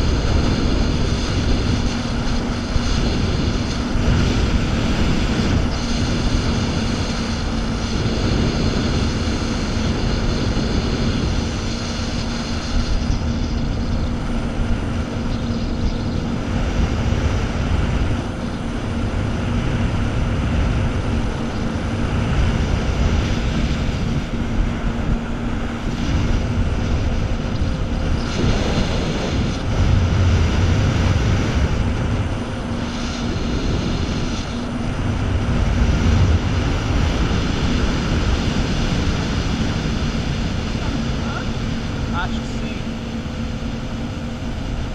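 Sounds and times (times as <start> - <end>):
jet ski engine droning: 0.0 - 44.9.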